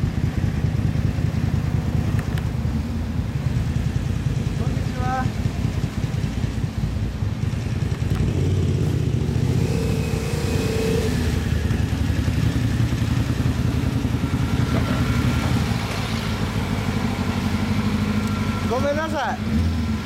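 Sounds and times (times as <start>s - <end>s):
scooter engine idling: 0.0s - 19.4s.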